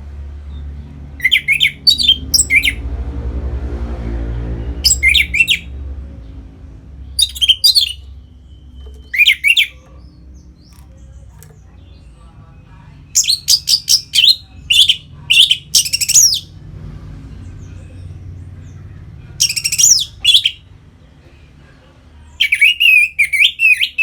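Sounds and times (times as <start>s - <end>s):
thrush singing: 0.9s - 21.4s.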